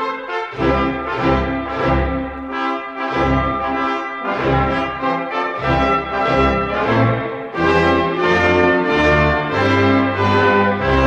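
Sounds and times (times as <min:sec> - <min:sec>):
brass instrumental music: 0:00.0 - 0:11.0.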